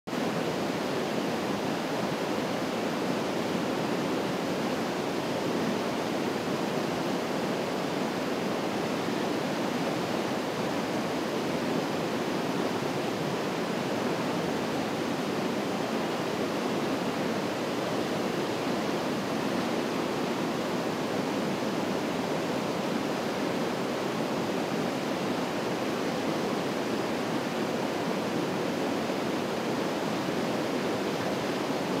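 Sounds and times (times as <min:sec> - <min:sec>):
waterfall and stream rushing: 0:00.1 - 0:32.0.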